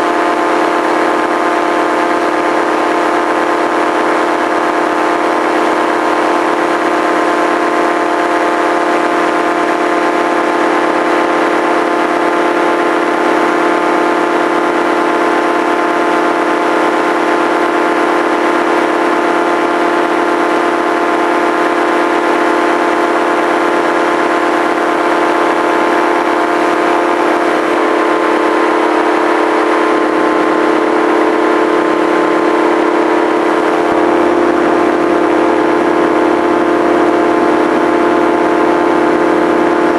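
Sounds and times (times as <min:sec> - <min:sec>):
small aircraft engine drone: 0:00.0 - 0:39.9.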